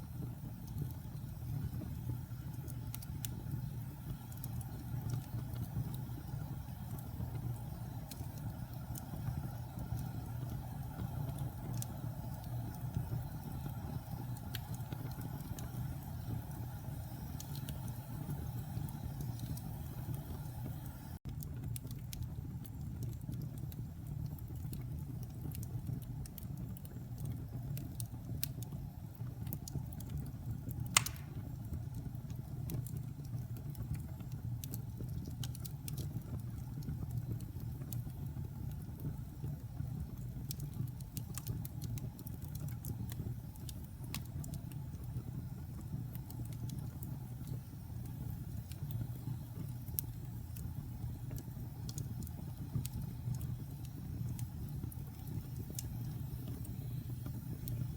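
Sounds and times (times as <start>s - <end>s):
fire crackling and popping: 0.0s - 57.9s
wood fire rumbling: 0.0s - 57.9s.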